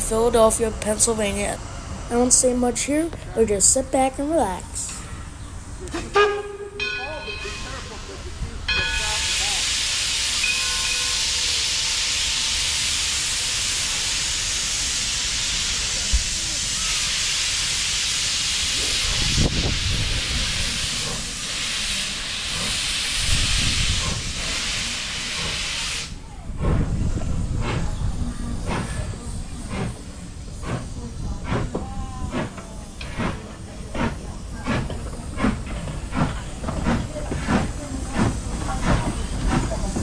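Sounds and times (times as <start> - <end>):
steam hissing: 0.0 - 5.2, 7.2 - 40.0
steam locomotive exhaust chuffs: 0.0 - 40.0.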